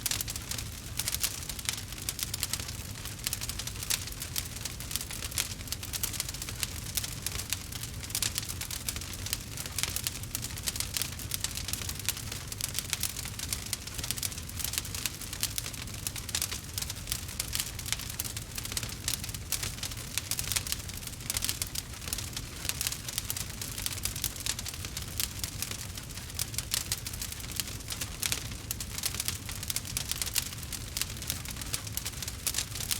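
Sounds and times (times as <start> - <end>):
campfire crackling: 0.0 - 32.9.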